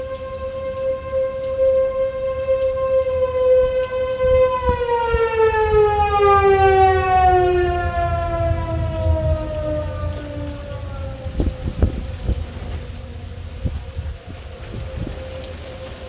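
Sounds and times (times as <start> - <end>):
storm wind and rain: 0.0 - 16.0
tornado warning siren: 0.0 - 16.0.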